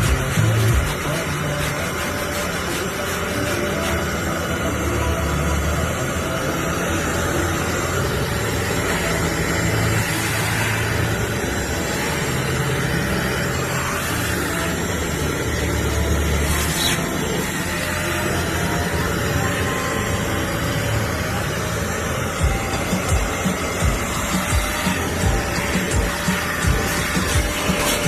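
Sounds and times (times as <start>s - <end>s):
carpet cleaner motor drone: 0.0s - 28.0s.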